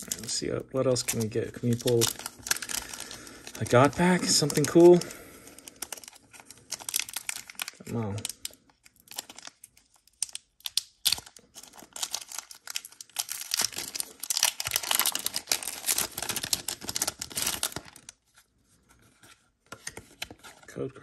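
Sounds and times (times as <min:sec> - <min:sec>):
foil wrapper tearing and crinkling: 0:00.0 - 0:18.2.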